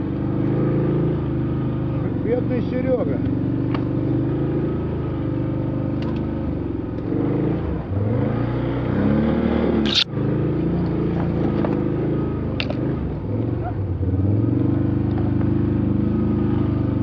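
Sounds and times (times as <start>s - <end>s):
vehicle engine revving under load: 0.0s - 17.0s.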